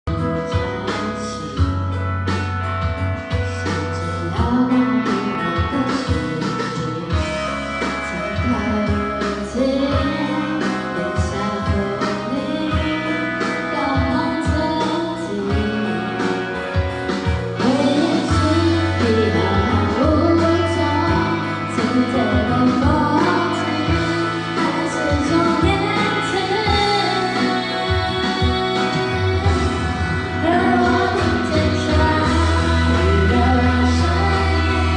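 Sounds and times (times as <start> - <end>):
guitar accompaniment: 0.0 - 34.9
steady bass line: 0.0 - 34.9
woman singing: 0.1 - 34.9.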